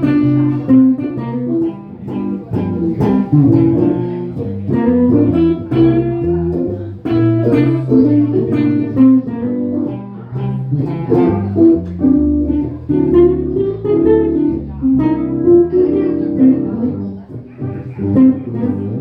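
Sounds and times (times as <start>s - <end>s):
plucked guitar-like notes: 0.0s - 19.0s
steady bass line: 0.0s - 19.0s.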